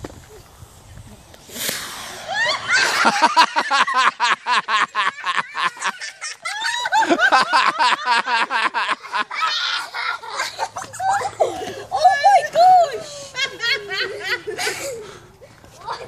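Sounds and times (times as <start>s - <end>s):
group of people laughing: 2.1s - 15.3s.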